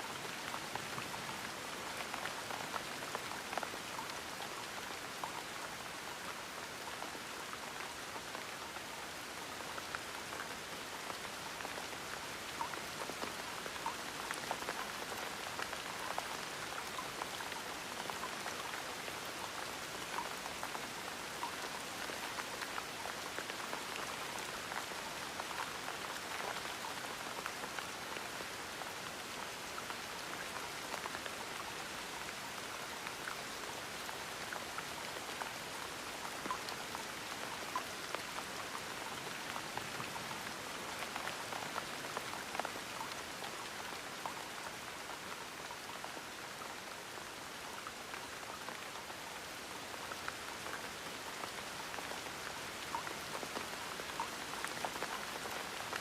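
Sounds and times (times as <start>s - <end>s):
gentle rain: 0.0s - 56.0s.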